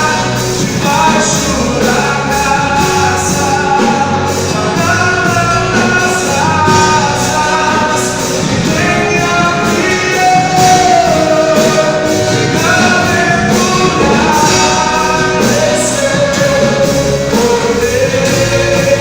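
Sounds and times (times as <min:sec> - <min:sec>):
drums: 0:00.0 - 0:19.0
person singing: 0:00.0 - 0:19.0
worship band playing: 0:00.0 - 0:19.0.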